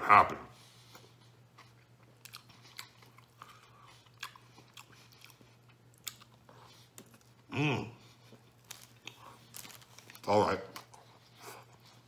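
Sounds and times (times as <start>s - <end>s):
chewing with lip smacks: 0.8s - 12.0s.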